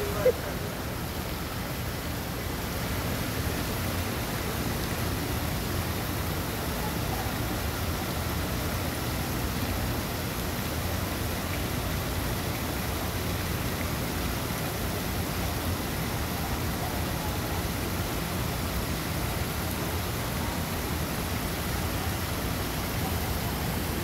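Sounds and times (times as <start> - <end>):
fountain water rushing: 0.0 - 24.0.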